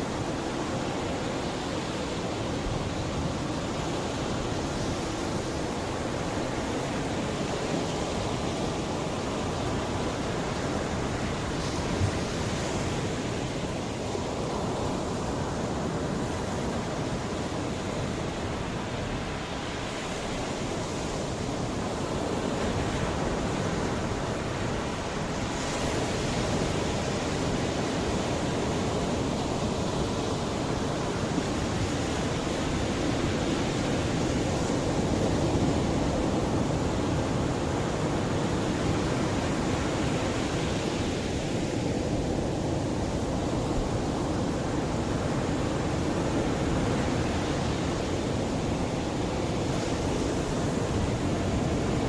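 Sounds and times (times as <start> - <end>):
sea waves washing onto shore: 0.0 - 52.0.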